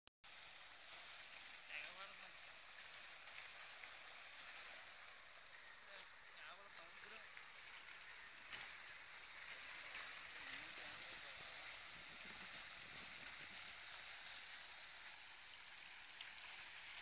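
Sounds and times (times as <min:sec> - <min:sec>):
steady hiss: 0:00.3 - 0:17.0.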